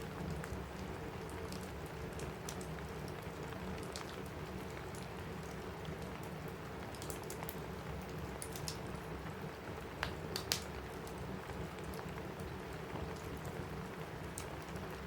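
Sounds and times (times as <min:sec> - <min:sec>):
rain on a roof: 0:00.0 - 0:15.0
wood fire crackling: 0:00.0 - 0:15.0.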